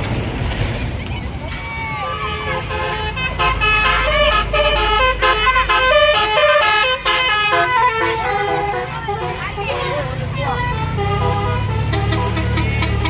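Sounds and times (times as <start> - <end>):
bus engine low rumble: 0.0 - 13.0
multi-tone bus horn melody: 1.9 - 13.0.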